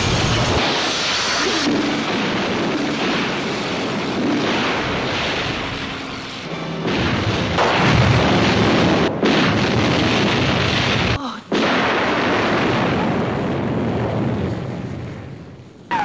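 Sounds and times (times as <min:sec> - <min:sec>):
explosions: 0:00.0 - 0:16.0.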